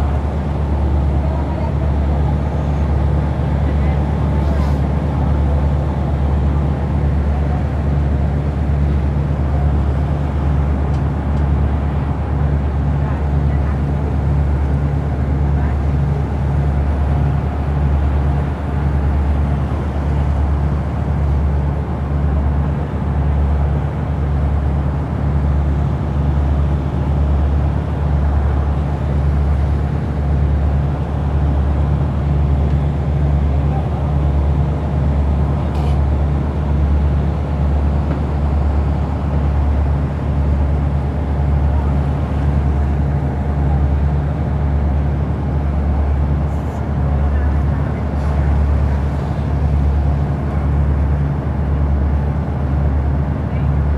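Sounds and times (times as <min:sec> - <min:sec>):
boat diesel engine droning: 0:00.0 - 0:53.9.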